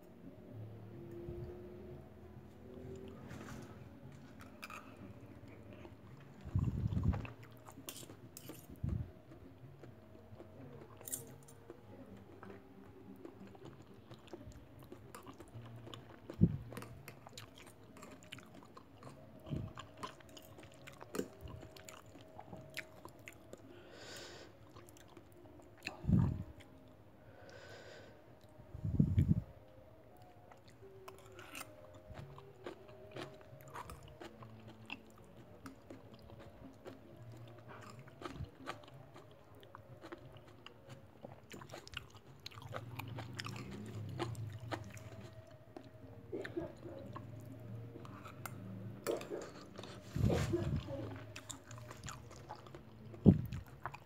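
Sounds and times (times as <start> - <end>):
person chewing: 4.3 - 26.8, 30.2 - 54.0.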